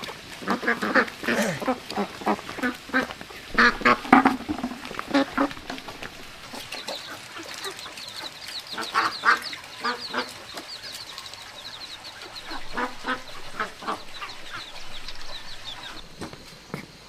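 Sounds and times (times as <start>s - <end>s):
fowl peeping: 0.0s - 16.4s
louder lower bird calls: 0.0s - 16.4s.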